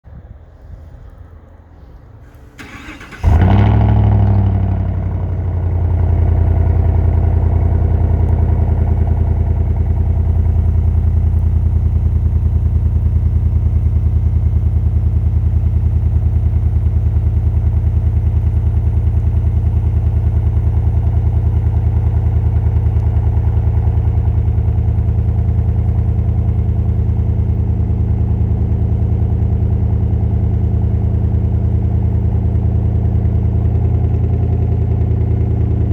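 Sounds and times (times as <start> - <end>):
truck engine cold start and idle: 0.1 - 35.9.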